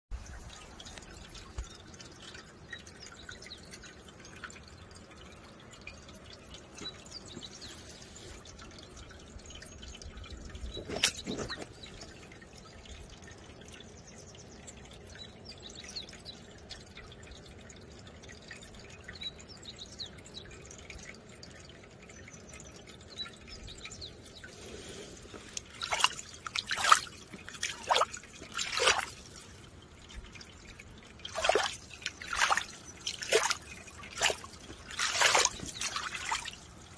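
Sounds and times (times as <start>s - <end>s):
water dripping and trickling: 0.1s - 36.9s.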